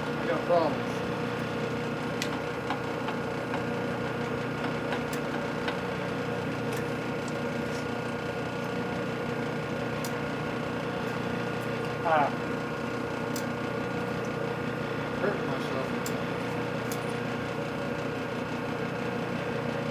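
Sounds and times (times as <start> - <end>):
lathe humming: 0.0 - 19.9.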